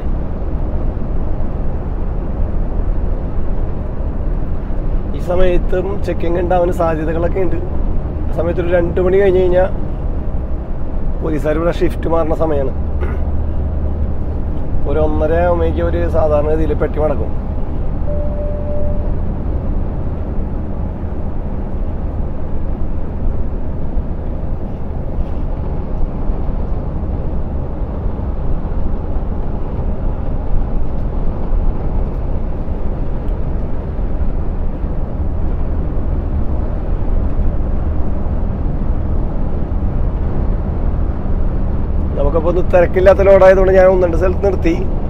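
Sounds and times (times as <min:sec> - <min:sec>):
truck engine drone: 0:00.0 - 0:45.0.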